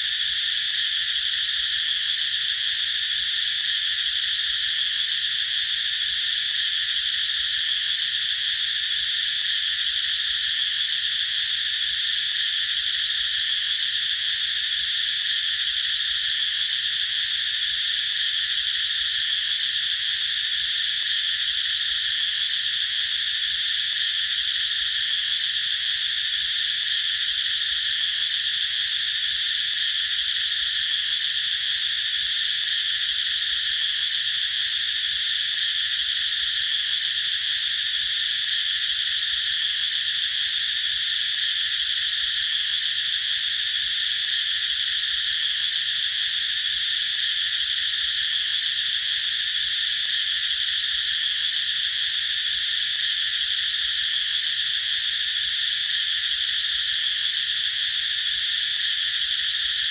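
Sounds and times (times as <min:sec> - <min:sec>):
cicadas buzzing drone: 0:00.0 - 0:59.9.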